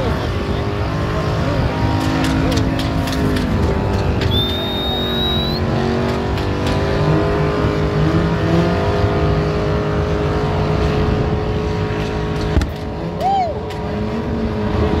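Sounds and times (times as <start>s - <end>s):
car engine at high revs: 0.0s - 15.0s
spinning tyres rushing: 0.0s - 15.0s.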